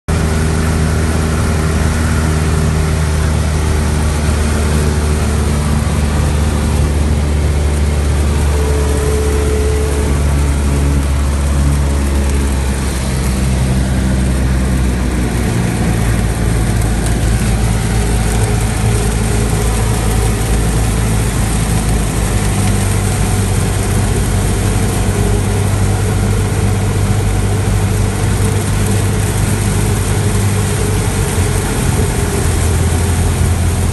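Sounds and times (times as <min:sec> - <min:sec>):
heavy rain hissing: 0:00.1 - 0:33.9
propeller plane engine running: 0:00.1 - 0:33.9.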